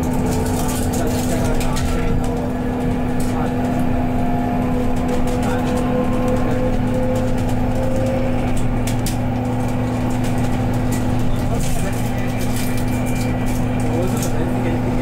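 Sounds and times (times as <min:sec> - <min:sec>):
bus hum and road rumble: 0:00.0 - 0:15.0.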